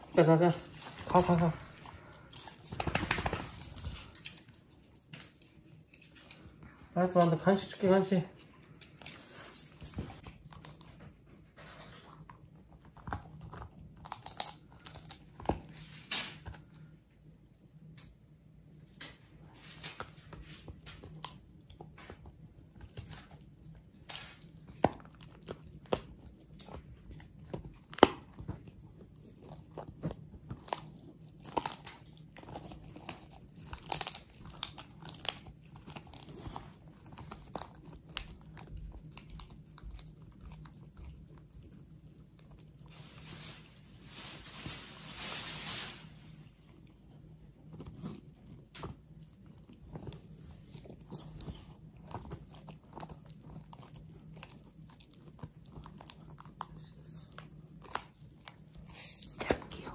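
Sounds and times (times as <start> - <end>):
dog chewing: 0.1 - 16.7, 19.9 - 43.3, 46.6 - 59.9.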